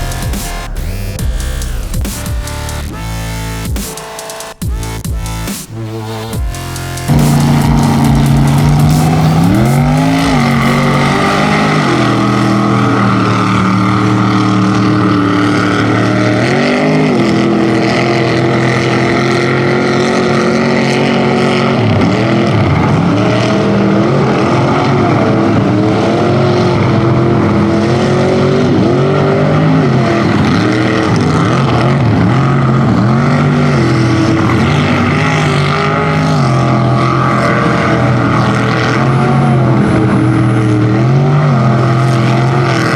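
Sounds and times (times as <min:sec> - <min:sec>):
truck engine revving: 0:00.0 - 0:42.9.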